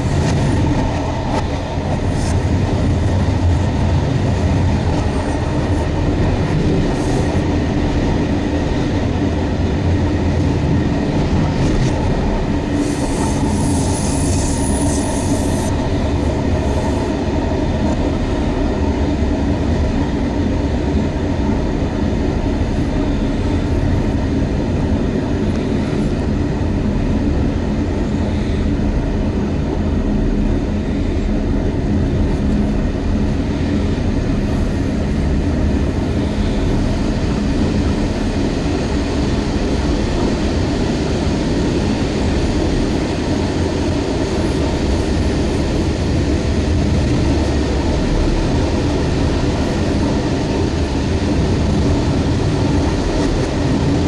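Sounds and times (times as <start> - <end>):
train rumbling at speed: 0.0 - 54.0.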